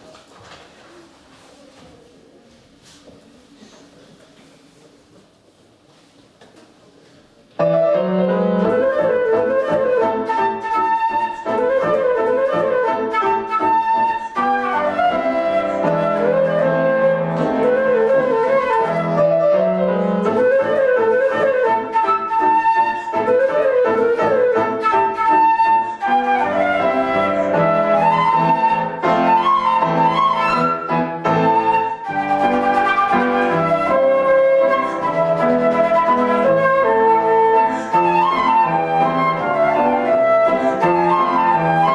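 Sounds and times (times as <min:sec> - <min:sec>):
flute melody with trills: 0:07.6 - 0:41.9.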